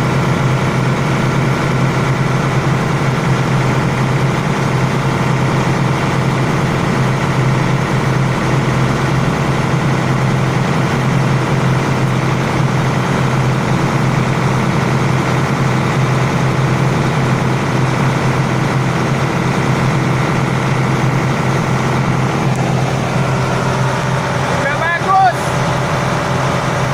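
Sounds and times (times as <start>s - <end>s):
machinery humming: 0.0s - 26.9s.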